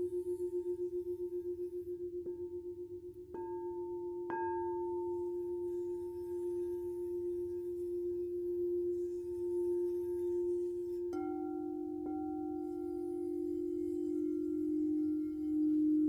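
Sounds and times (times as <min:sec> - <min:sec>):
singing bowl ringing: 0:00.0 - 0:16.0.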